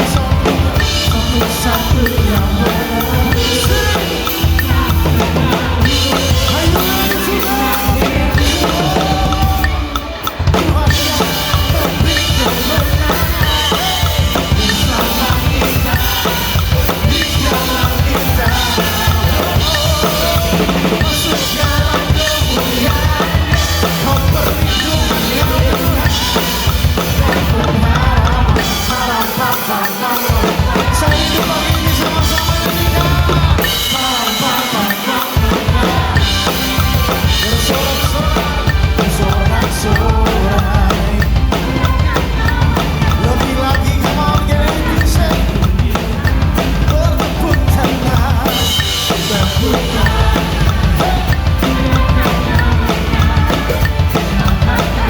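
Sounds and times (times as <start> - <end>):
backing track music: 0.0 - 55.0
click track: 0.0 - 55.0
fast drum kit playing: 0.0 - 55.0.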